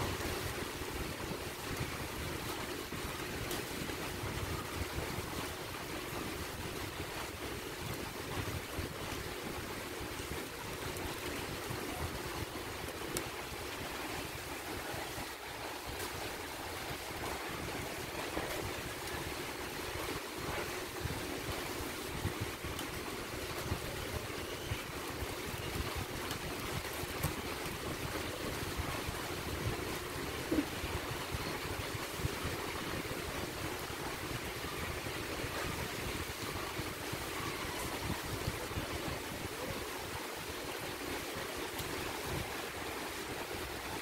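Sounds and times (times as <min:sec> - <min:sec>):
steady rushing noise: 0:00.0 - 0:44.0.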